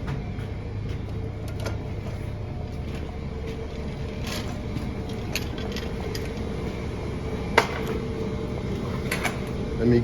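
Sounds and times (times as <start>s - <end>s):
low machinery hum: 0.0s - 10.0s.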